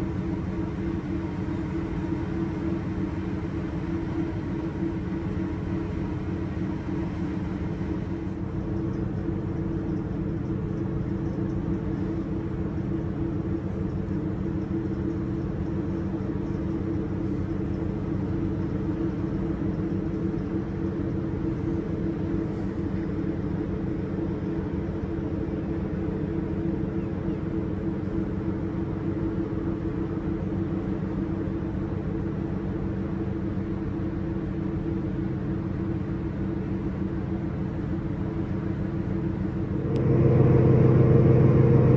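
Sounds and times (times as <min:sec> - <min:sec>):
ship engine drone: 0:00.0 - 0:41.9.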